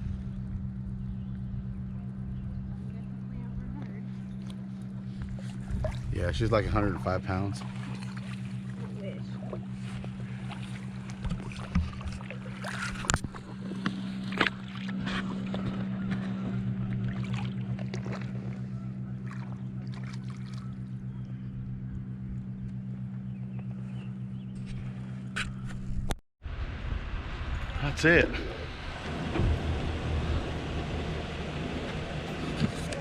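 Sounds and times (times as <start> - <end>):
motor humming: 0.2 - 26.2, 28.4 - 33.0.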